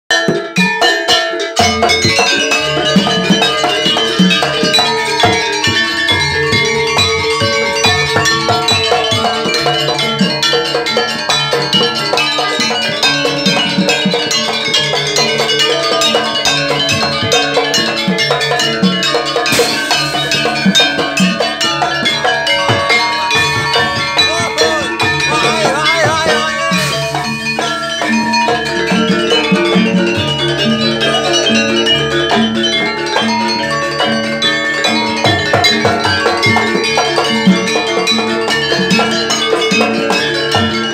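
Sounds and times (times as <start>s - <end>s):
hand drums steady rhythm: 0.1s - 40.9s
ringing tuned gongs: 0.1s - 40.9s.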